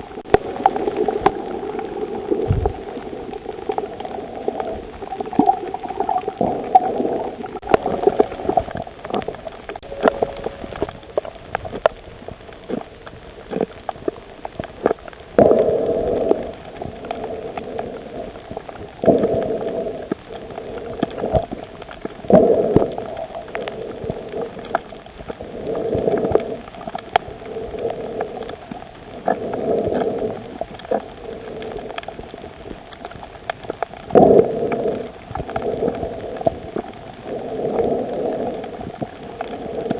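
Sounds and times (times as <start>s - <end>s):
underwater moving water bubbling: 0.0s - 39.9s.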